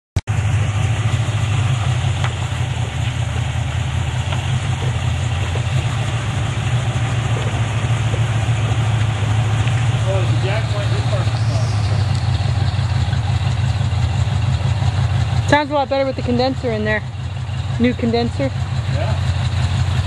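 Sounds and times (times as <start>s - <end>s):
car engine idling: 0.2s - 20.0s.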